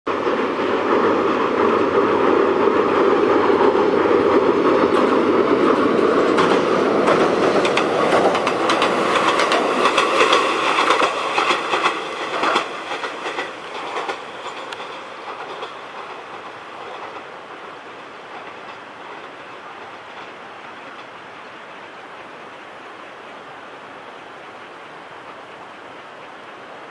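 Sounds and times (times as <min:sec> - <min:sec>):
wheels clattering over rail joints: 0:00.1 - 0:22.2
electric train passing: 0:00.1 - 0:26.9.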